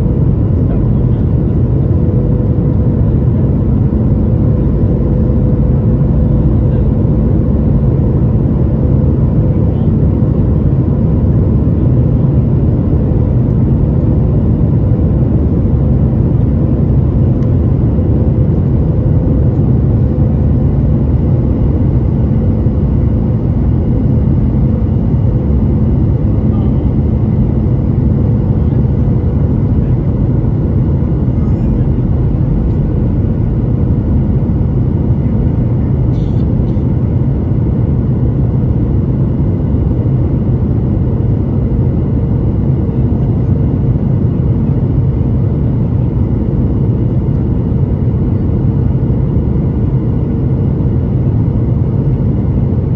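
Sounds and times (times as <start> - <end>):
jet engine and air rumble: 0.0 - 52.9.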